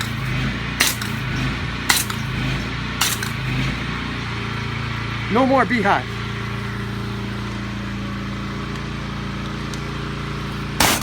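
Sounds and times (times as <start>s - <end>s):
pressure washer engine running: 0.0s - 11.0s.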